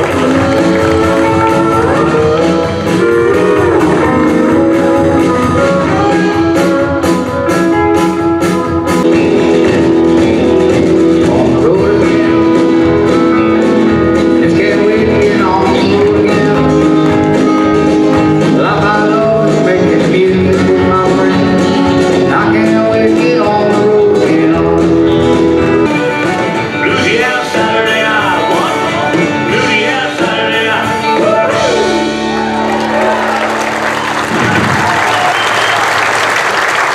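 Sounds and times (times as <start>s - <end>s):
person singing: 0.0s - 8.2s, 9.0s - 33.2s
live country band playing: 0.0s - 36.9s.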